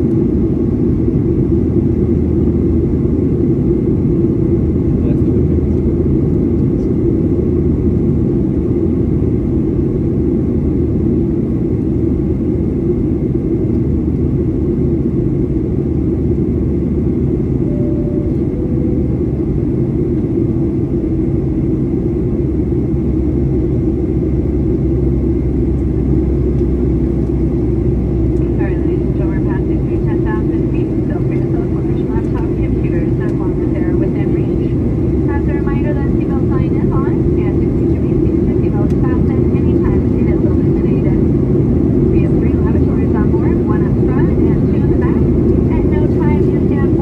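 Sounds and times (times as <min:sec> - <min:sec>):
airplane cabin drone: 0:00.0 - 0:47.0.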